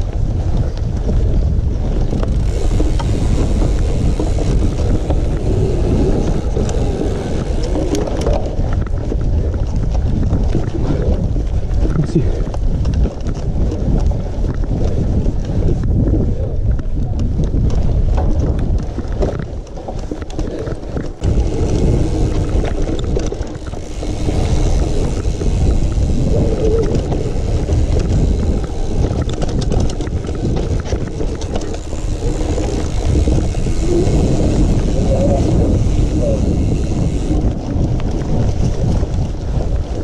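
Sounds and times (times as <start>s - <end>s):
bike knocks and rattles: 0.0s - 40.0s
wind buffeting microphone: 0.0s - 40.0s.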